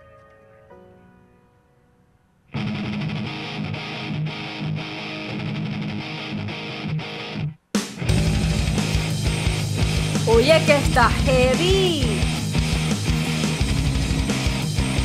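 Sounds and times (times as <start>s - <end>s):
rock song with electric guitars: 2.6s - 15.0s.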